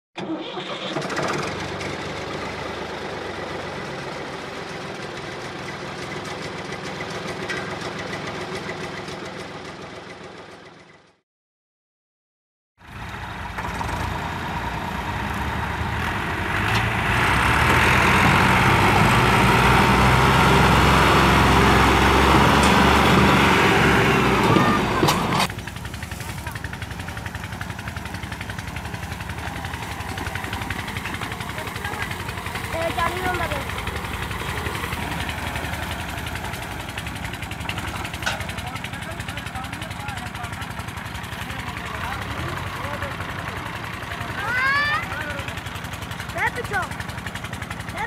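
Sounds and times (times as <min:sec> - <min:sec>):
tractor diesel engines: 0:00.2 - 0:11.2, 0:12.8 - 0:48.0.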